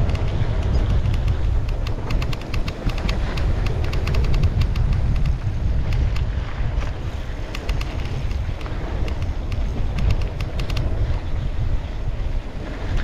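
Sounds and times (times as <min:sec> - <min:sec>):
bike clicks and rattles: 0:00.0 - 0:13.0
wind buffeting microphone: 0:00.0 - 0:13.0.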